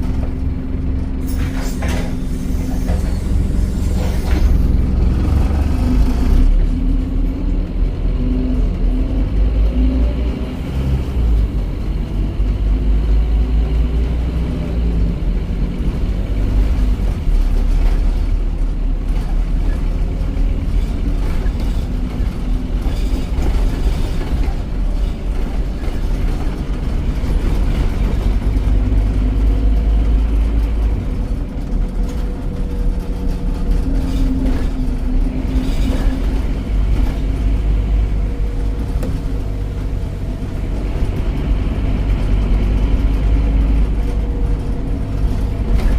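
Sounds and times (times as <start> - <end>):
bus diesel engine rumbling: 0.0 - 45.9.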